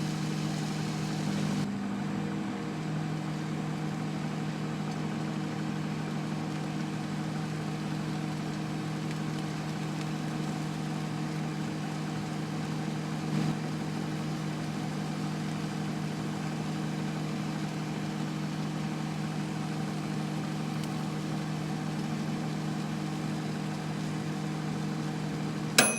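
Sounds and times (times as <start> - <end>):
microwave oven humming: 0.0 - 25.9.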